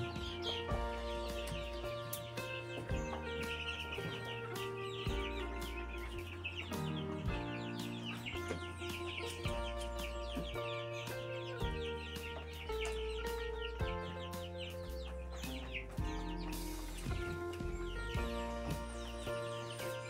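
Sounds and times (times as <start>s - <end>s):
background music: 0.0s - 20.0s
chicks peeping: 0.0s - 20.0s.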